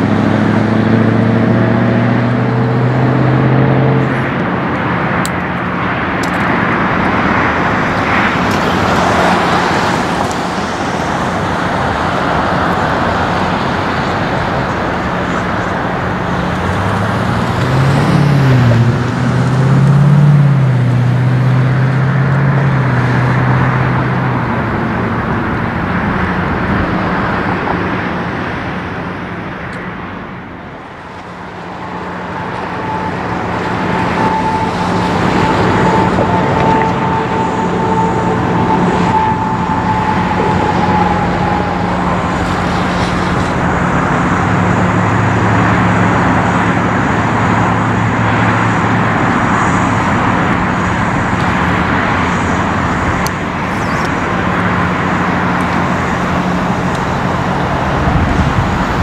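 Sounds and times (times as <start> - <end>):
diesel locomotive engine drone: 0.0 - 59.0
steady rushing noise: 0.0 - 59.0.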